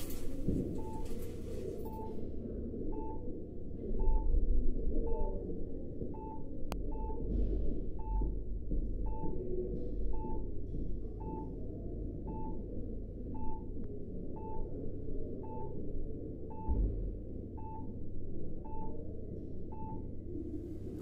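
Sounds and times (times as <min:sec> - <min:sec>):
patient monitor beeping: 0:00.0 - 0:02.3, 0:02.9 - 0:05.4, 0:06.0 - 0:07.3, 0:07.9 - 0:16.8, 0:17.4 - 0:21.0
muffled room rumble: 0:00.0 - 0:21.0.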